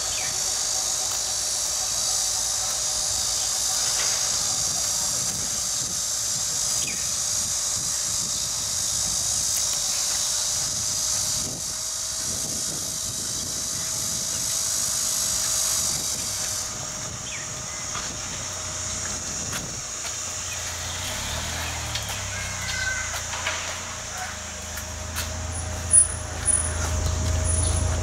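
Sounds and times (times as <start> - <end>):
high-pitched outdoor hiss: 0.0 - 28.0.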